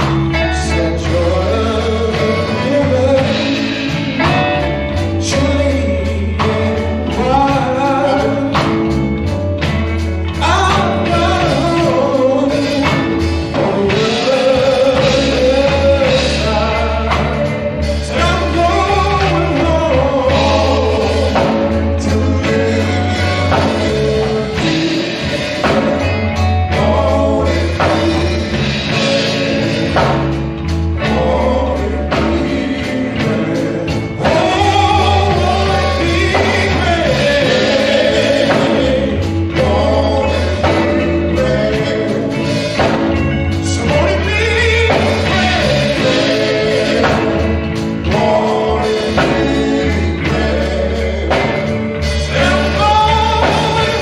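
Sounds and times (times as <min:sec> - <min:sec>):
bass line: 0:00.0 - 0:54.0
drums with steady beat: 0:00.0 - 0:54.0
voices singing gospel song: 0:00.0 - 0:54.0.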